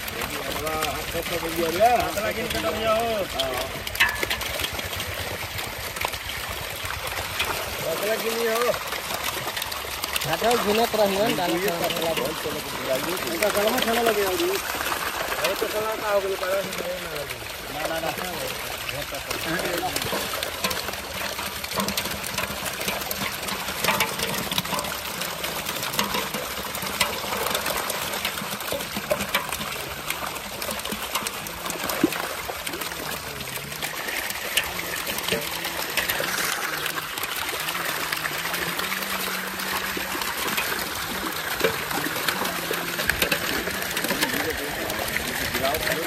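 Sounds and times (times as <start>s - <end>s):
fish thrashing and splashing: 0.0s - 46.0s.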